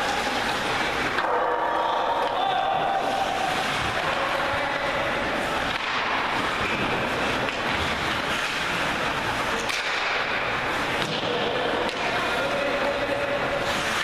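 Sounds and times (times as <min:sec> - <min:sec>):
arena crowd noise: 0:00.0 - 0:14.0.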